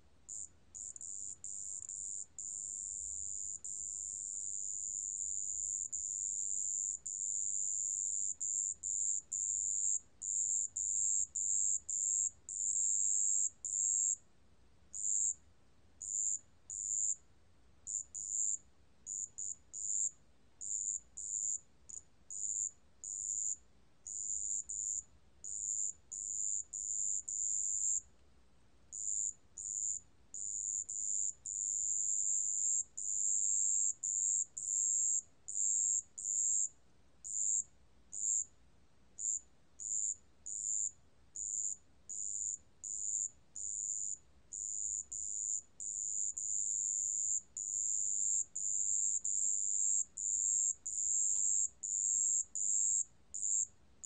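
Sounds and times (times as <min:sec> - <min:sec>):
cricket trilling: 0:00.3 - 0:14.2, 0:14.9 - 0:15.4, 0:16.0 - 0:17.2, 0:17.9 - 0:28.0, 0:28.9 - 0:38.5, 0:39.2 - 0:53.7.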